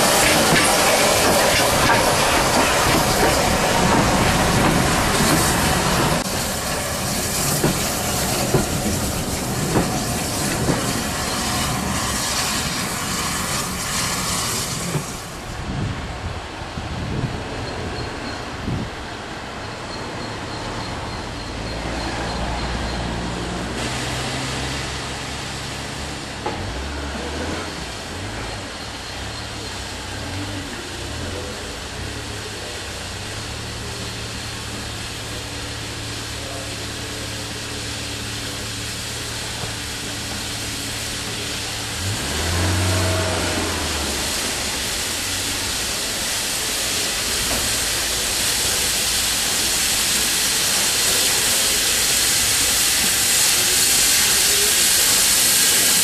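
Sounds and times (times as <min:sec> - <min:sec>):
steam hissing: 0:00.0 - 0:56.0.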